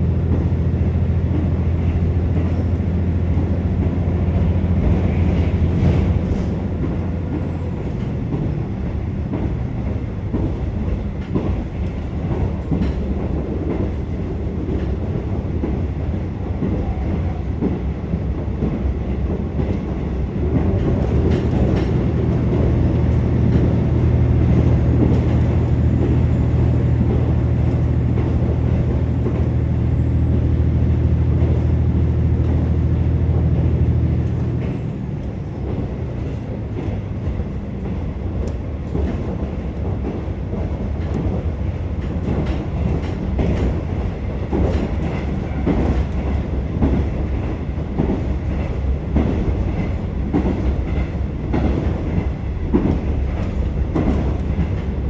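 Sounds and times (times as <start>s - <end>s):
wheel and rail noise: 0.0s - 55.0s
track clicks and clatter: 3.8s - 55.0s.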